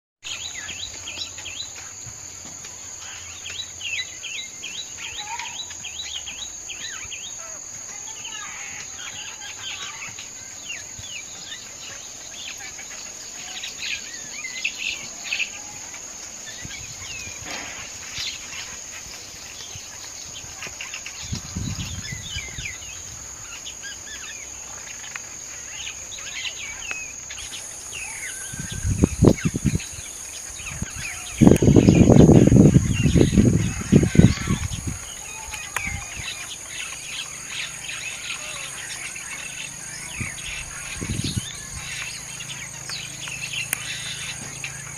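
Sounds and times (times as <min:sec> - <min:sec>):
bird chirps and calls: 0:00.2 - 0:44.9
high-pitched insect drone: 0:00.3 - 0:44.9.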